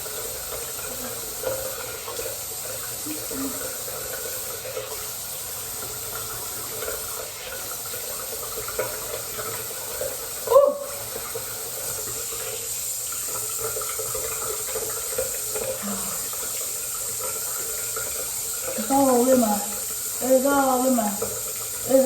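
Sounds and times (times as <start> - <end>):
sink tap running: 0.0 - 22.0.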